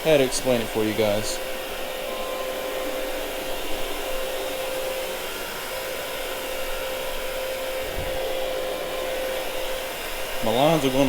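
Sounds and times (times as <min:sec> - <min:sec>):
carpet cleaning machine running: 0:00.0 - 0:11.0.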